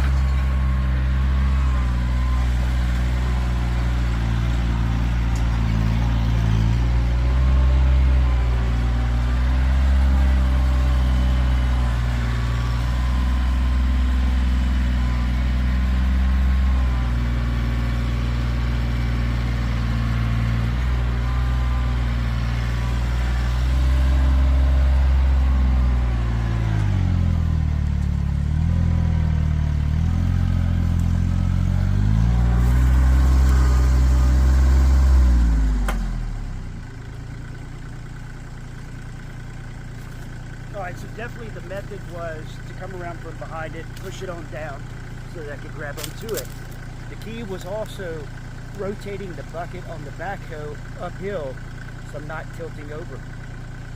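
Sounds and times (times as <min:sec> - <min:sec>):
tractor diesel engine under load: 0:00.0 - 0:53.9.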